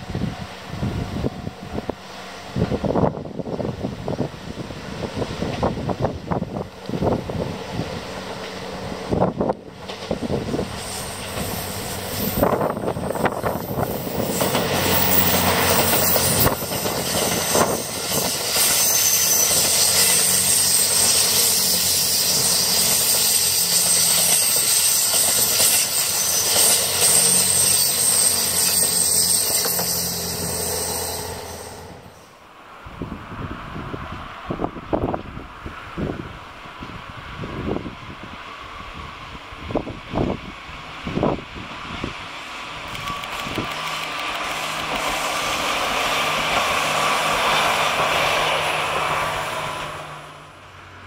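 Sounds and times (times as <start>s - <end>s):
rail and wheel noise: 0.0s - 51.0s
train engine drone: 0.0s - 51.0s.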